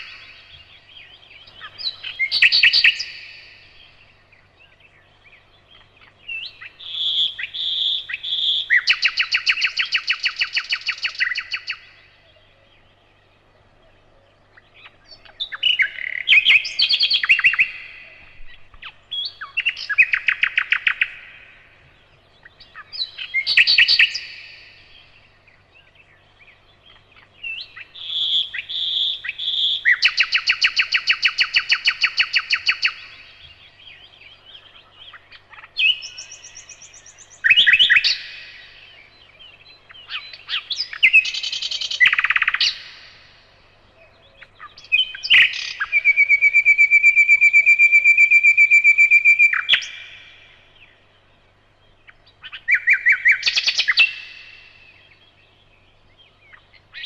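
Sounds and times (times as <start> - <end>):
nightingale singing: 0.0 - 57.0.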